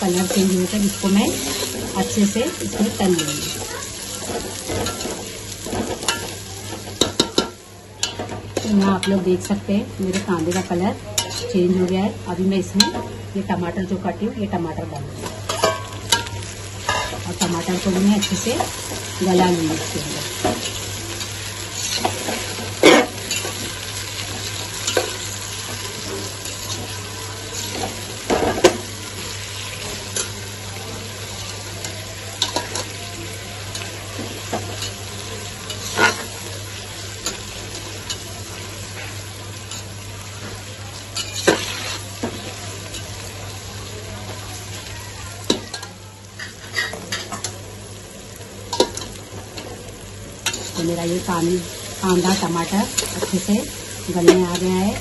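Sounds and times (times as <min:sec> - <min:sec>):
onions sizzling in hot oil: 0:00.0 - 0:55.0.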